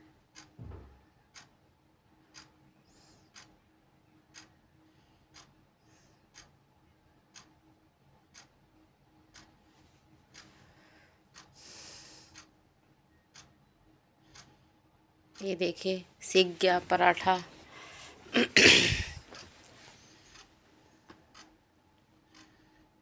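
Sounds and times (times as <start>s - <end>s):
faint clock ticking: 0.0s - 23.0s.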